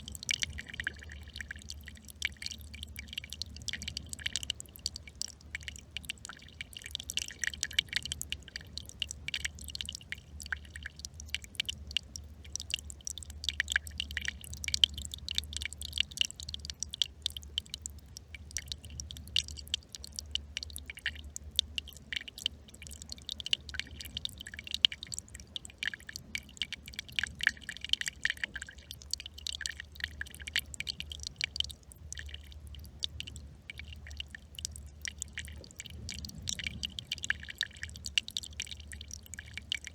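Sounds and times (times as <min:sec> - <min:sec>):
brook trickling and babbling: 0:00.0 - 0:39.9
steady low hum: 0:00.0 - 0:39.9.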